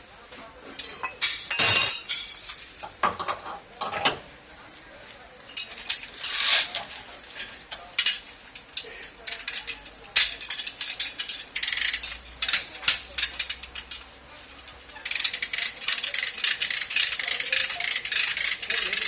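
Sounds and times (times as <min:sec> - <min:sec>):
hand tools tapping sheet metal: 0:00.8 - 0:04.2, 0:05.5 - 0:19.0.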